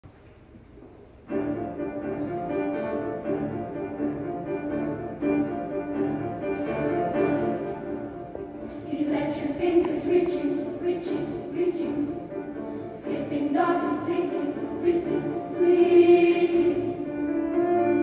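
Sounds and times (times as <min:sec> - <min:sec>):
grand piano accompaniment: 0:01.2 - 0:18.0.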